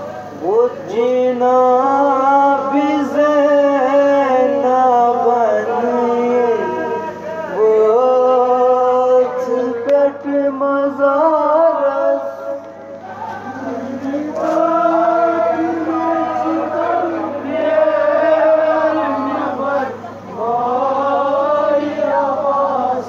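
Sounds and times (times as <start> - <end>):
man singing a lament: 0.2 - 23.0.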